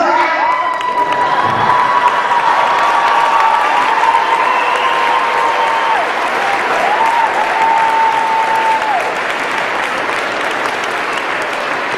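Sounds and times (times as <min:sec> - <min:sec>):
long held cheers: 0:00.0 - 0:11.9
audience applauding: 0:00.3 - 0:11.9.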